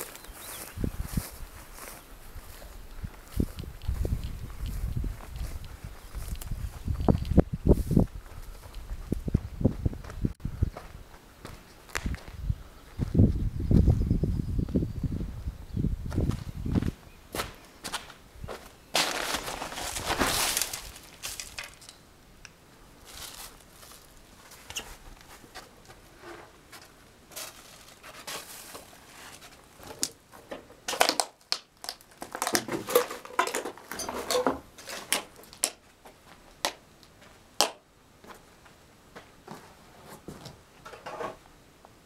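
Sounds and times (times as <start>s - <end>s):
footsteps crunching over rubble: 0.0s - 13.2s, 16.0s - 22.0s, 23.0s - 40.6s.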